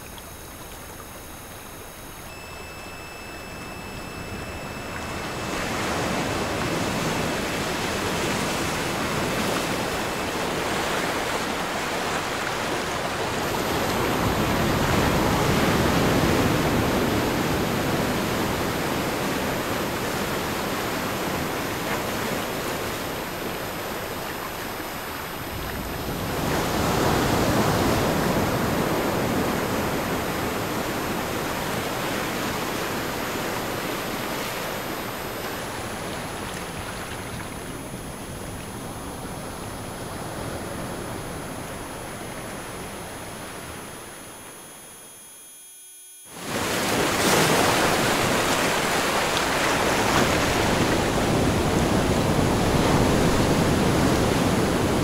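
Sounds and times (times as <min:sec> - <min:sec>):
ocean waves washing in: 0:00.0 - 0:44.1, 0:46.3 - 0:55.0
faint high-pitched tones: 0:00.0 - 0:54.9.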